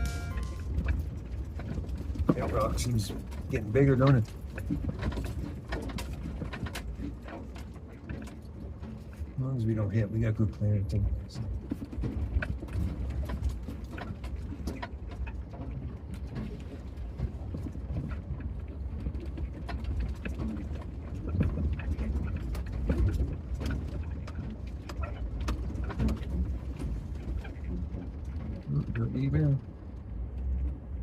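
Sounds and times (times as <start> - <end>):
van engine and road rumble: 0.0 - 31.0
clicks and knocks from bumps: 0.8 - 9.4, 10.4 - 30.9.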